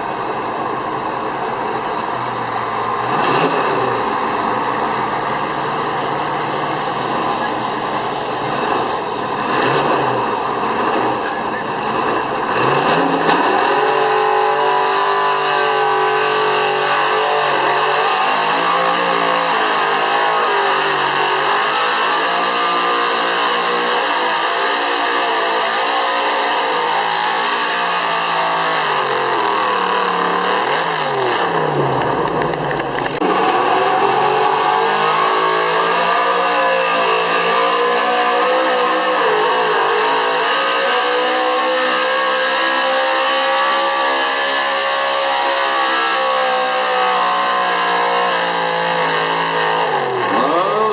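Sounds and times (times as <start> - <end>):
pickup engine running hard: 0.0 - 50.9.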